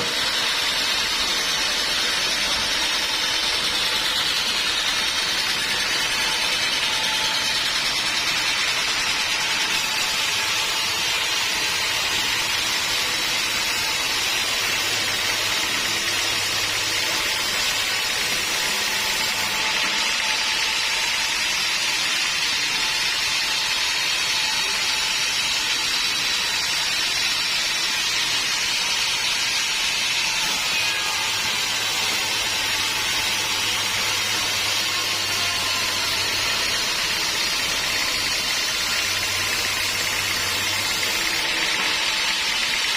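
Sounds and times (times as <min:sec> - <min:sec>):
band saw blade sawing log: 0:00.0 - 0:42.9.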